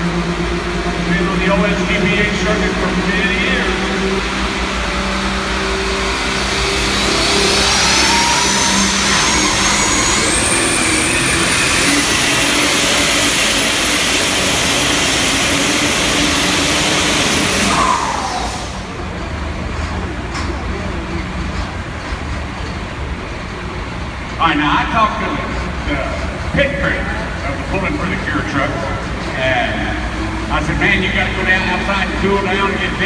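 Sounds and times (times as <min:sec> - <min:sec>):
high whine: 0:00.0 - 0:33.0
tractor engine at full throttle: 0:00.0 - 0:33.0.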